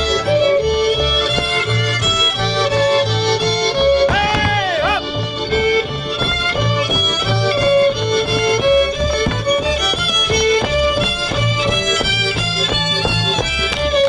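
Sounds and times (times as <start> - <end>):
fiddle playing quick melody: 0.0 - 14.0.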